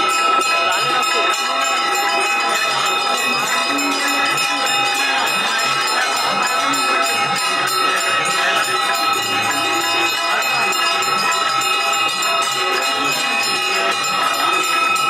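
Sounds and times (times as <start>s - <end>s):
many bells ringing: 0.0s - 15.0s.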